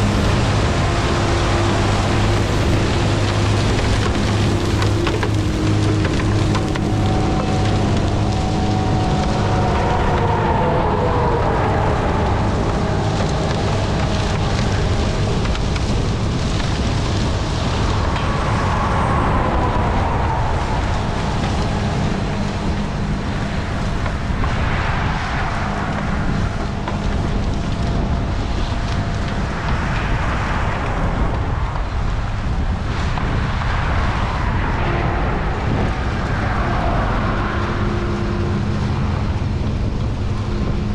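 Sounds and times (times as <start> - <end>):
drone propellers whirring: 0.0 - 40.9
wind rush: 0.0 - 40.9.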